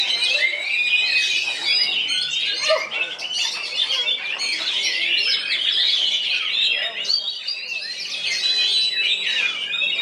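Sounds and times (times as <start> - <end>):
bird singing whistles and chirps: 0.0 - 10.0.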